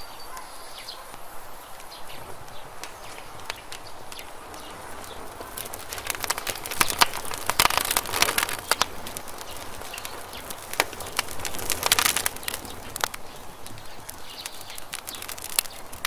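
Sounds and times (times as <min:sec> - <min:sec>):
campfire crackling and popping: 0:00.0 - 0:16.0
soft steady hiss: 0:00.0 - 0:16.0.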